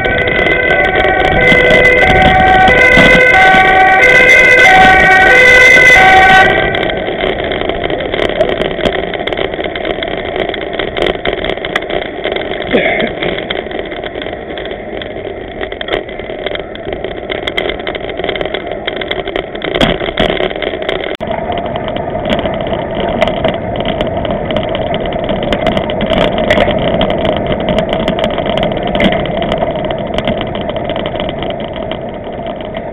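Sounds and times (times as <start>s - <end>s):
bicycle road rumble: 0.0s - 32.9s
small rattles and clicks: 0.0s - 32.9s
wind on microphone: 0.0s - 32.9s.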